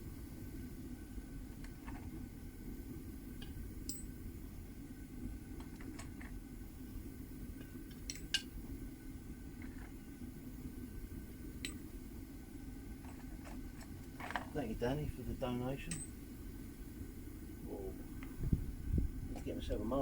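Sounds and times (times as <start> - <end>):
gas burner running: 0.0 - 20.0.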